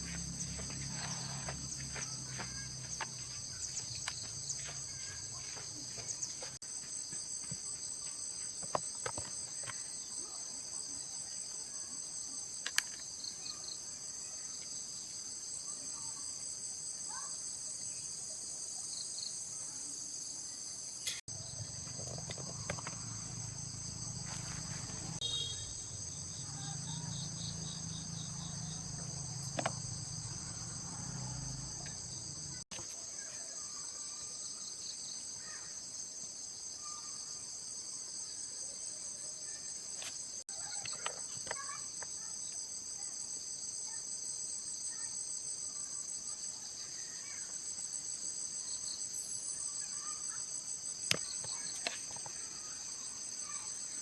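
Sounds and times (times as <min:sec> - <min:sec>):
insect chorus chirring: 0:00.0 - 0:18.2, 0:18.8 - 0:38.8, 0:39.4 - 0:54.0.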